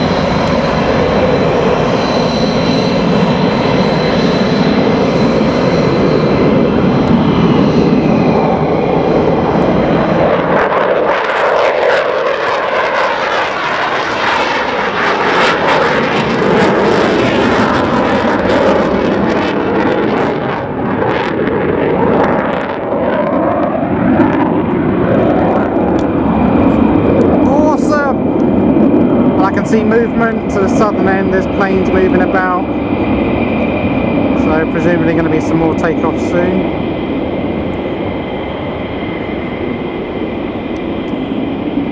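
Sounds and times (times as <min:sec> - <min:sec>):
jet engine high whine: 0:00.0 - 0:41.9
jet taking off with crackling roar: 0:00.0 - 0:41.9.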